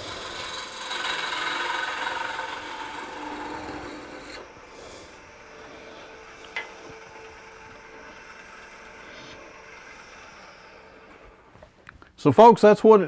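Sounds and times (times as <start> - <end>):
parting tool scraping spinning wood: 0.0 - 11.5
wood lathe humming: 0.0 - 11.9.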